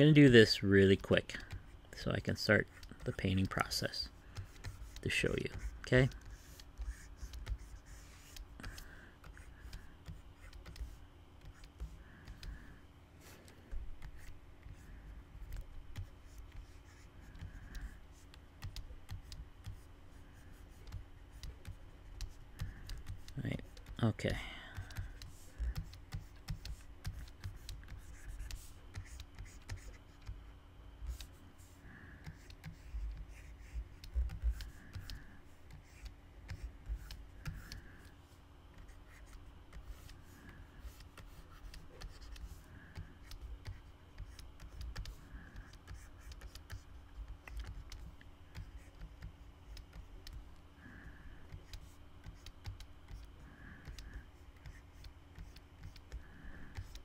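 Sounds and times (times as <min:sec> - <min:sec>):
steady low hum: 0:00.0 - 0:57.0
pen stylus scratching tablet: 0:04.4 - 0:24.0, 0:24.8 - 0:38.1, 0:38.8 - 0:57.0.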